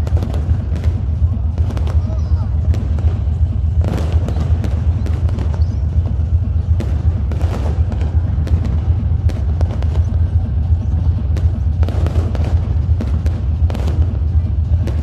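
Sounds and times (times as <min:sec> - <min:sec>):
bass-heavy music: 0:00.0 - 0:15.0
fireworks cracking and banging: 0:00.0 - 0:15.0.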